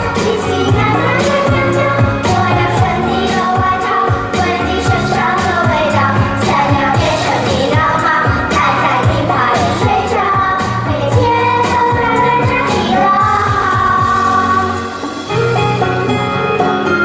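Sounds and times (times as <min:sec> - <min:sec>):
high voices singing pop song: 0:00.0 - 0:15.8
pulsing bass backing track: 0:00.0 - 0:17.0.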